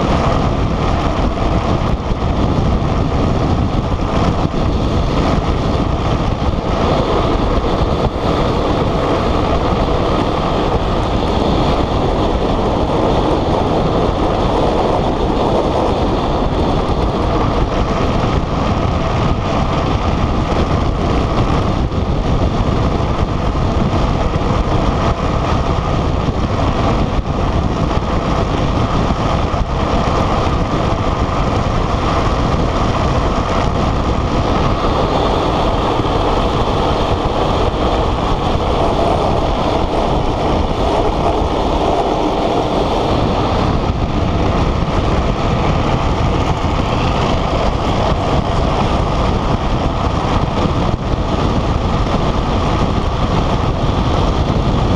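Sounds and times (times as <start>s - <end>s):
wheels rolling on rough asphalt: 0.0s - 54.9s
wind over microphone: 0.0s - 54.9s.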